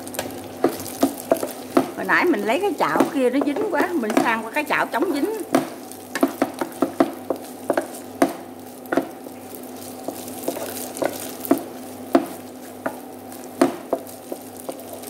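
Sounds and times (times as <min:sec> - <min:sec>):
sizzling: 0:00.0 - 0:15.0
wooden spatula scraping a pan: 0:00.1 - 0:15.0.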